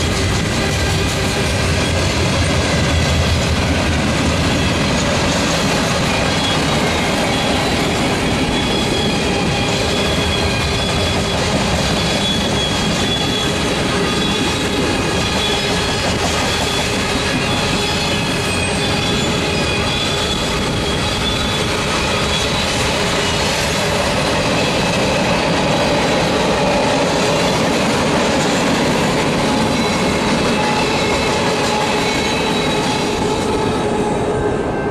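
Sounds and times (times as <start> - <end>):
train wheels rumbling on rail: 0.0 - 34.9
high-pitched squealing: 4.4 - 34.9.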